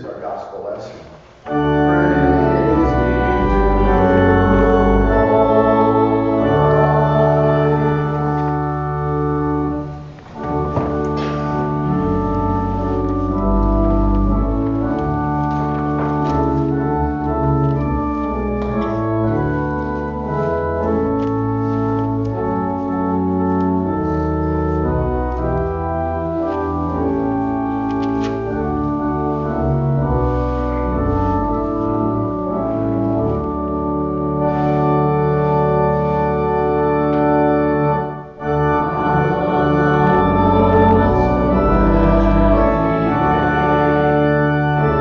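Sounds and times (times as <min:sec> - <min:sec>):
church organ playing chords: 0:00.0 - 0:45.0.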